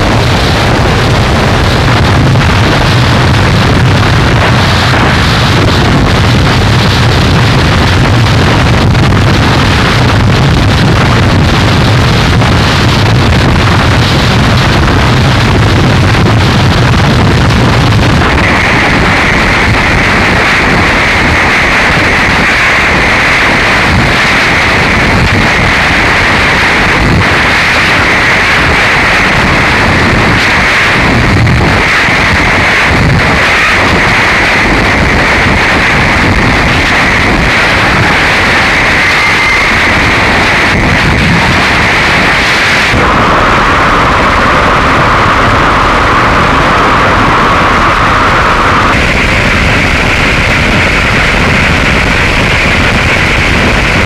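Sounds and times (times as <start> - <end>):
distorted noise music: 0.0 - 54.0
heavy low rumble: 0.0 - 54.0.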